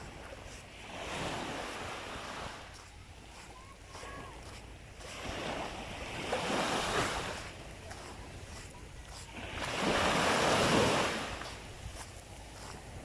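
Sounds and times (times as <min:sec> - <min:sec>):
small waves breaking on beach: 0:00.0 - 0:13.0
wind rumble on microphone: 0:00.0 - 0:13.0.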